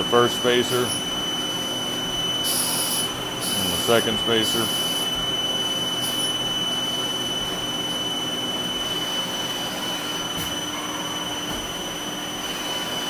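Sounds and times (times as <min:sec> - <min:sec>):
lathe spindle high whine: 0:00.0 - 0:13.0.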